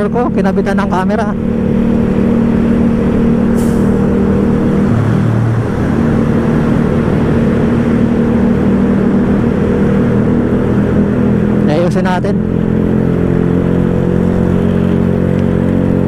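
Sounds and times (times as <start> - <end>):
motorcycle engine running: 0.0 - 16.0
rushing road noise: 0.0 - 16.0.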